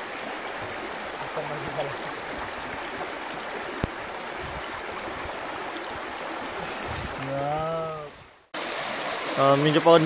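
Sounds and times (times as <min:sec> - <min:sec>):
stream flowing over rocks: 0:00.0 - 0:10.0.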